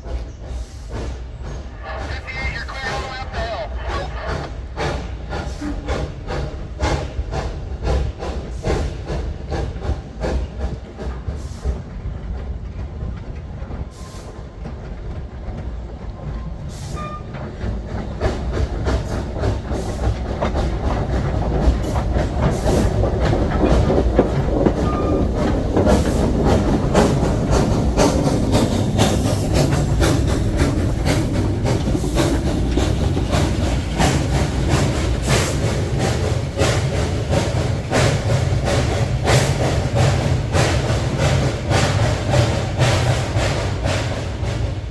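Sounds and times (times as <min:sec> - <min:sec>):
train wheels clicking over rail joints: 0:00.0 - 0:01.8, 0:04.3 - 0:44.9.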